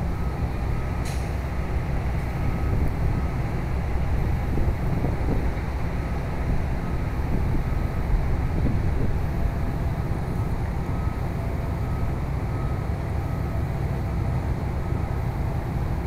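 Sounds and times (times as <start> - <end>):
diesel excavators rumbling: 0.0 - 16.0.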